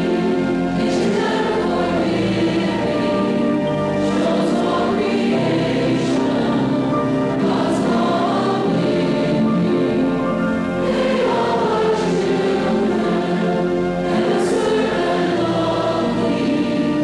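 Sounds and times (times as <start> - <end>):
congregation singing: 0.0 - 17.0.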